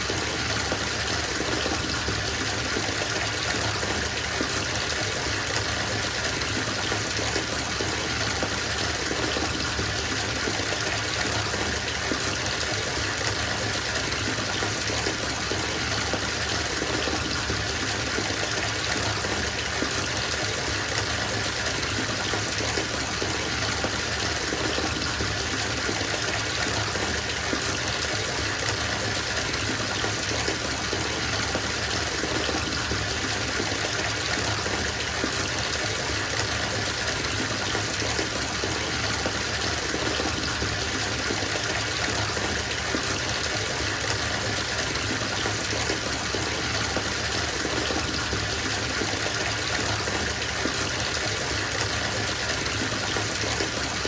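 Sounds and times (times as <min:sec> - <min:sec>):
water pouring into bathtub: 0:00.0 - 0:54.0.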